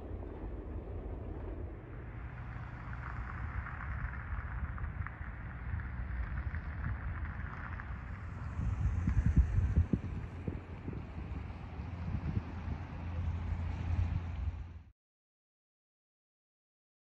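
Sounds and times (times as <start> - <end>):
wind rumbling on microphone: 0.0 - 14.9.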